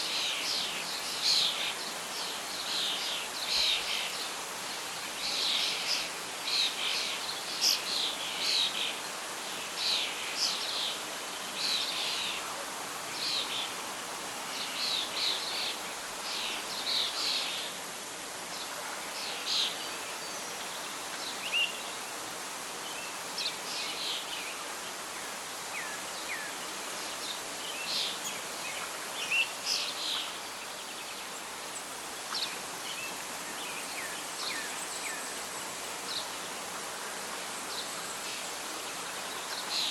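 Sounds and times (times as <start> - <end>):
rustling leaves: 0.0 - 39.9.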